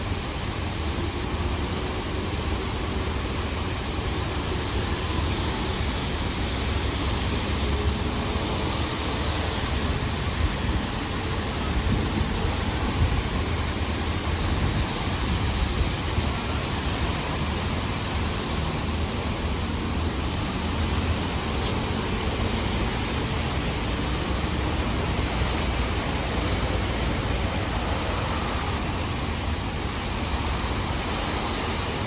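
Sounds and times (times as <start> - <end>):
vehicle rumble and hiss: 0.0 - 32.0.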